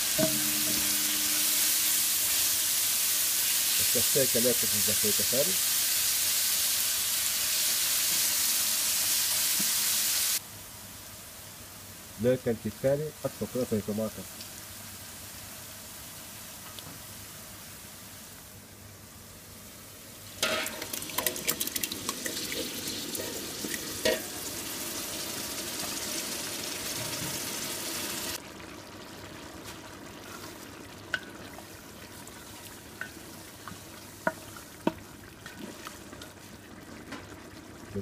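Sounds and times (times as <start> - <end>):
loud sizzle with crackling: 0.0 - 18.5, 20.1 - 38.0
onion frying in oil: 0.0 - 38.0.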